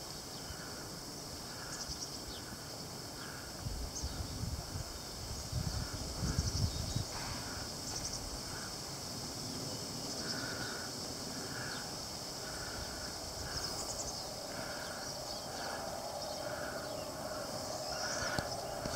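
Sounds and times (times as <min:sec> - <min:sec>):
high-pitched insect drone: 0:00.0 - 0:18.9.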